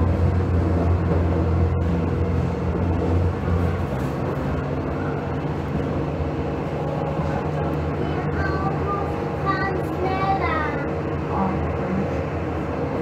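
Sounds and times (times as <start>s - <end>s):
low hum inside tram cab: 0.0s - 13.0s.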